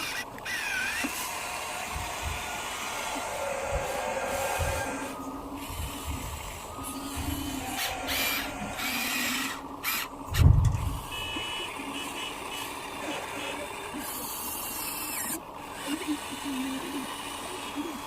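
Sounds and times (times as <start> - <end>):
toy truck reversing beeps: 0.0 - 18.0.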